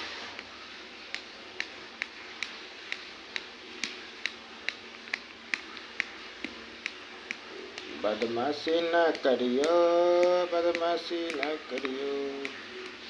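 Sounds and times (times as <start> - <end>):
sharp ticking clicks: 1.1 - 13.0.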